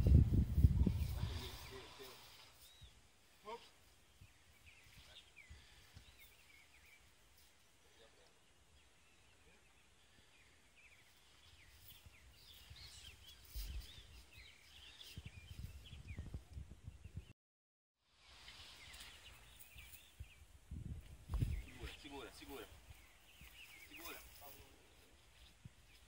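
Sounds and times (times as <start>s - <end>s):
birds chirping: 0.0s - 17.3s, 18.3s - 26.0s.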